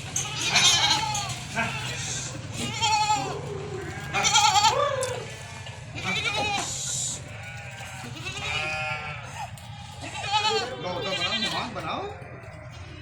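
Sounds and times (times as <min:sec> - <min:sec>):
goats bleating: 0:00.0 - 0:13.0.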